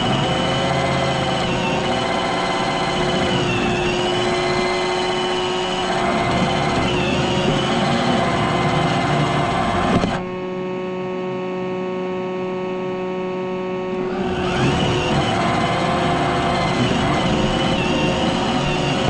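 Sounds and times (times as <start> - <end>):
robot vacuum motor whine: 0.0 - 19.0.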